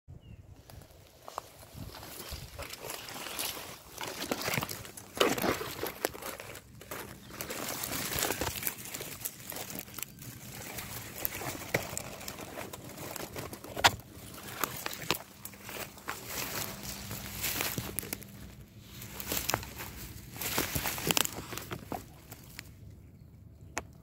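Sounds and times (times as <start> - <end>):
dry leaves rustling and crackling: 0.6 - 22.8.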